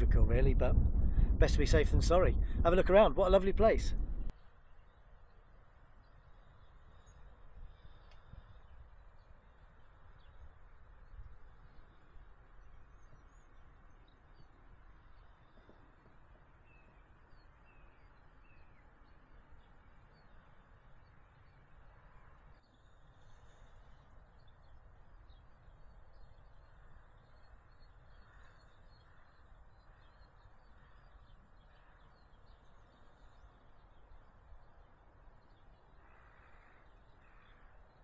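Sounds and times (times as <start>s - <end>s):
distant birds chirping: 1.4s - 38.0s.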